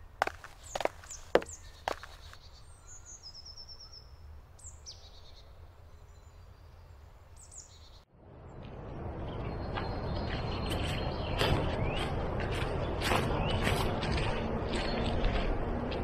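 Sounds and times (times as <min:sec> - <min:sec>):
small birds chirping: 0:00.0 - 0:08.0, 0:09.3 - 0:15.5.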